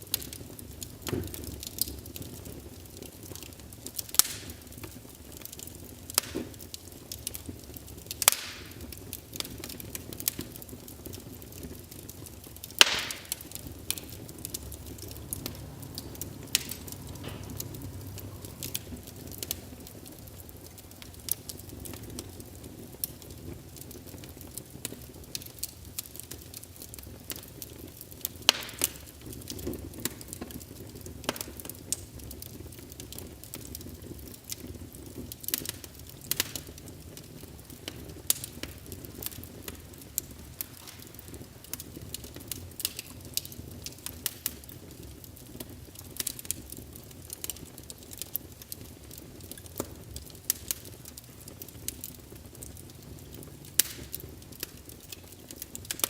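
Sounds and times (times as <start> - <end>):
burning logs crackling: 0.0 - 56.0
low rumble of flames: 0.0 - 56.0
sharp pops from fire: 0.0 - 56.0.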